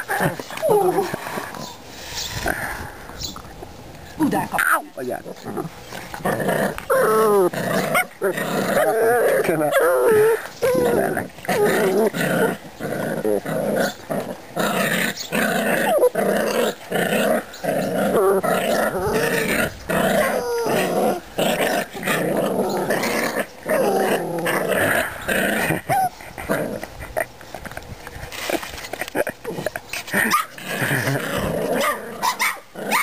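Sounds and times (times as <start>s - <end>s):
puppies play-growling: 0.0s - 33.0s.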